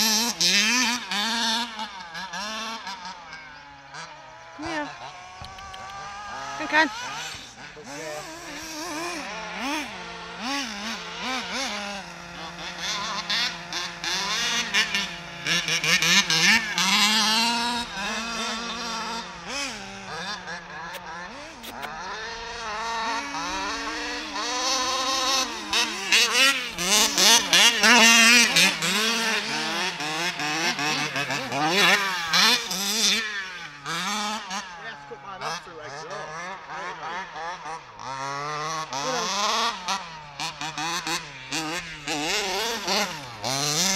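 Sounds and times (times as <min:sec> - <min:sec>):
small two-stroke engine revving: 0:00.0 - 0:43.9.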